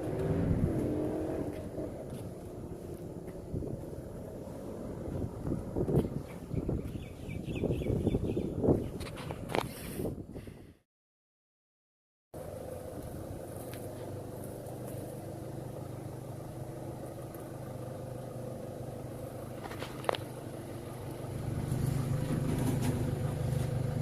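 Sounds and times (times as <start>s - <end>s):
vehicle engine running: 0.0s - 8.4s, 12.4s - 24.0s.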